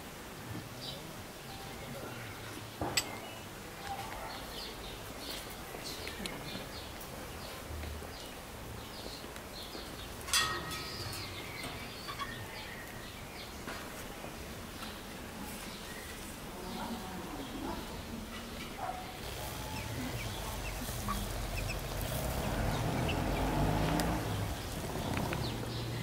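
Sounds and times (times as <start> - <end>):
outdoor background noise: 0.0 - 26.0
birds chirping: 0.7 - 26.0.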